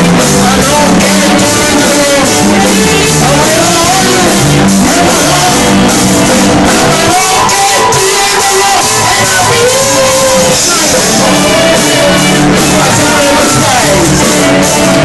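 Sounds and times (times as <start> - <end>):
person singing: 0.0 - 15.0
rock music: 0.0 - 15.0.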